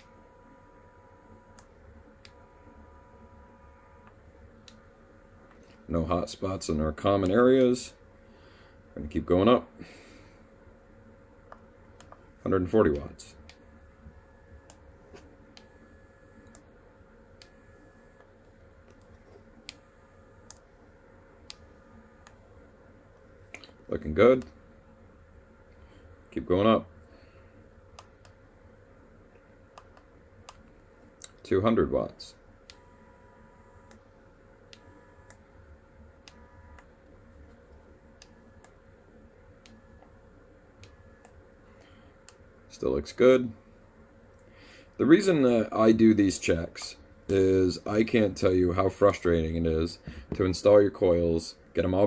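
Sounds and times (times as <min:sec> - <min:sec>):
faint steady whine: 0:00.0 - 0:52.0.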